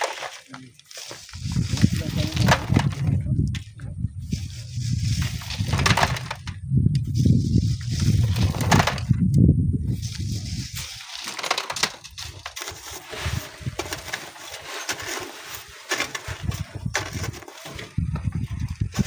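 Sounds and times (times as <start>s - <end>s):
crunching of sand and stones: 0.0s - 19.0s.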